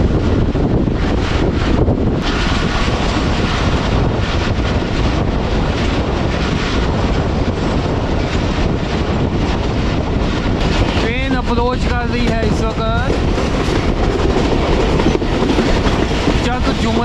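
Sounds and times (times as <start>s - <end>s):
passenger train running: 0.0s - 17.0s
wind buffeting microphone: 0.0s - 17.0s.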